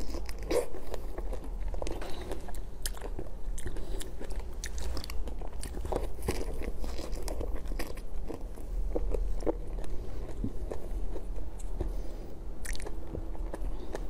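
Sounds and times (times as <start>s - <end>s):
chewing crunchy food: 0.0s - 14.0s.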